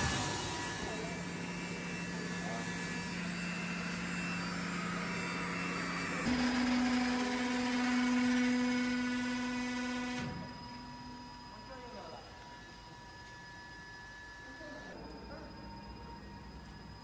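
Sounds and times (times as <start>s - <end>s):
electric motor hum: 0.1s - 17.0s.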